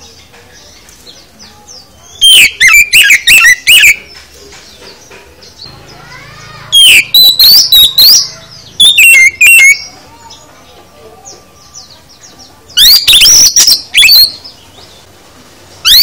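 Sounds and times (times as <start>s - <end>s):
bird singing whistled notes: 0.0s - 10.5s, 11.2s - 15.0s.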